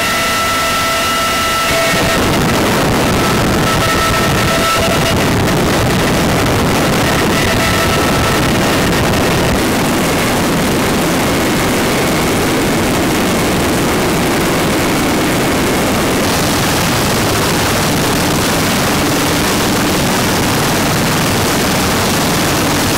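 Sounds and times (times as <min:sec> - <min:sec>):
faint whine tones: 0:00.0 - 0:22.9
helicopter engines and rotors: 0:00.0 - 0:22.9.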